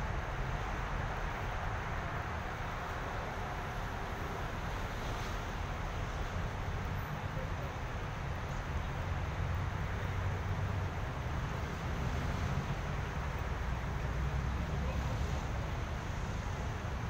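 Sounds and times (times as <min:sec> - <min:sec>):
urban background rumble and hiss: 0:00.0 - 0:17.0.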